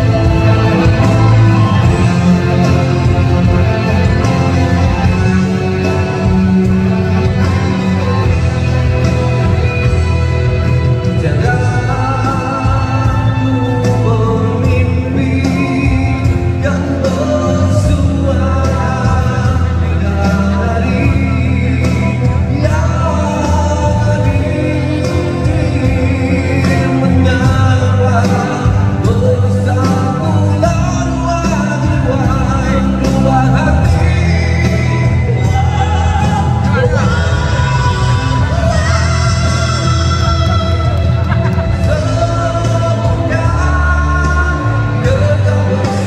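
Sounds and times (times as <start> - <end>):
backing music with bass and beat: 0.0 - 46.0
man singing into microphone: 0.0 - 46.0.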